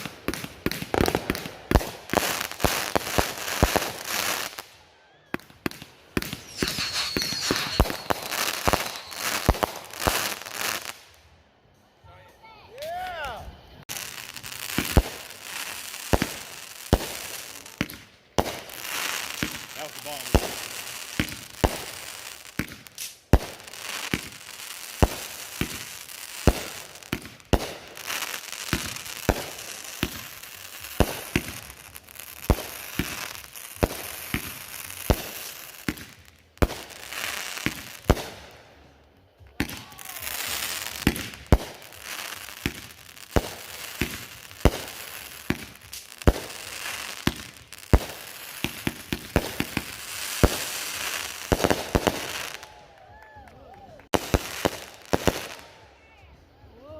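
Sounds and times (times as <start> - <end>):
firework bangs: 0.0 - 11.1, 13.9 - 38.5, 39.5 - 52.8, 54.1 - 55.7
firework crackling: 0.0 - 11.4, 12.7 - 53.2, 53.9 - 56.1.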